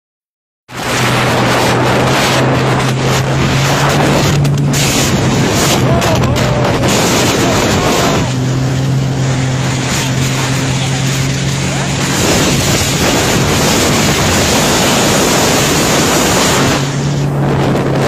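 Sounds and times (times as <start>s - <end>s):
jet ski engine running: 0.7s - 18.0s
rushing water: 0.7s - 18.0s
wind on microphone: 0.7s - 18.0s.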